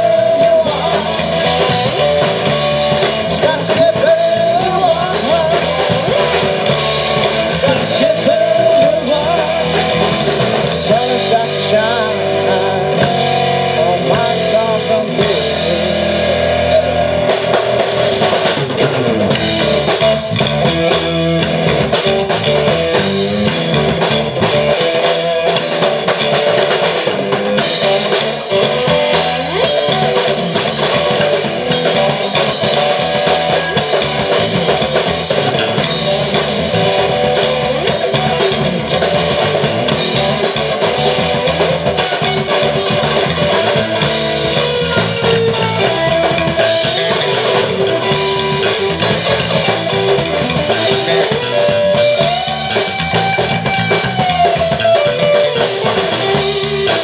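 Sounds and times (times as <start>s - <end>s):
bass guitar: 0.0s - 57.0s
drum kit: 0.0s - 57.0s
electric guitar lead: 0.0s - 57.0s.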